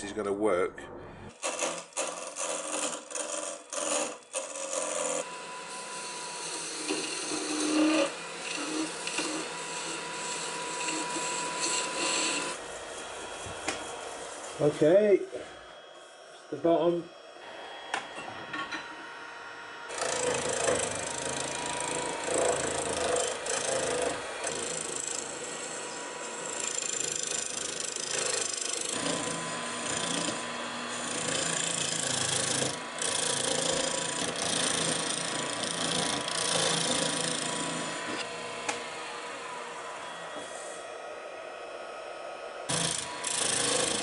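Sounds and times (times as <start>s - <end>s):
lathe tool scraping wood: 1.3s - 44.0s.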